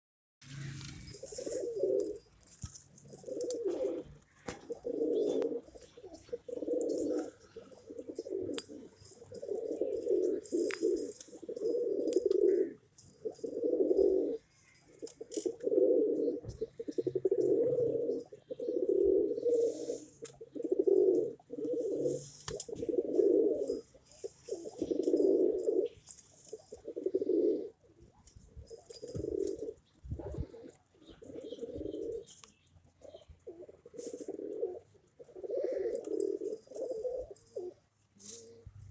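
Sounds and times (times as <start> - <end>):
pigeons cooing: 1.1 - 38.9.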